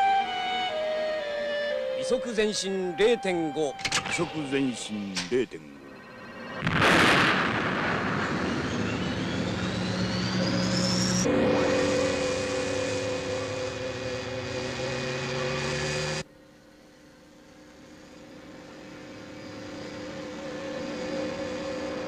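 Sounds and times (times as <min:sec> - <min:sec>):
spaceship engine hum: 0:02.2 - 0:16.2, 0:17.7 - 0:22.0.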